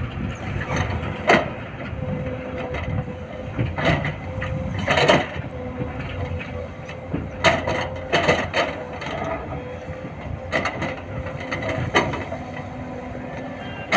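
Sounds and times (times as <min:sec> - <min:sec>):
excavator running hum: 0:00.0 - 0:13.9.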